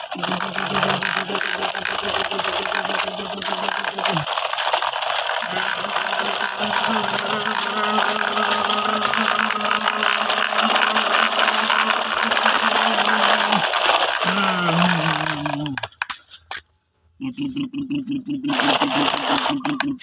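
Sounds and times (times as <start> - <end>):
plastic wheels rattling on concrete: 0.0 - 16.7, 18.4 - 20.0.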